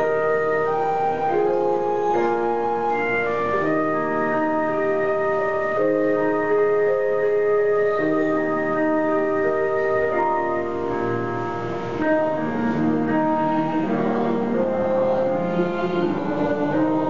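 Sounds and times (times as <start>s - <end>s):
choir singing a hymn: 0.0s - 17.0s
keyboard accompaniment: 0.0s - 17.0s.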